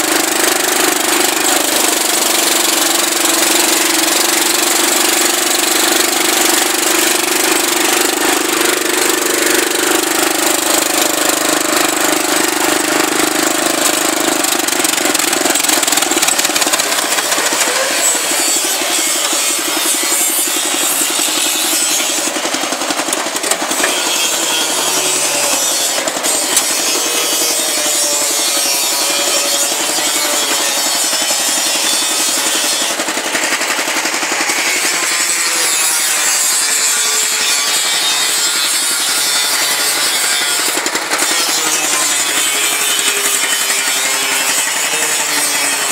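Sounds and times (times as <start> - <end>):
riding mower engine running: 0.0 - 45.9.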